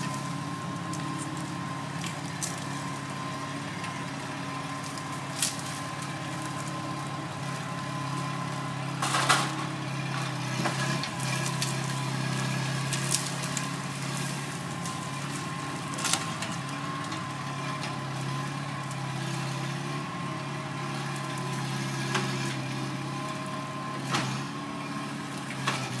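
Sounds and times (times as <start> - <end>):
loader engine running: 0.0 - 26.0.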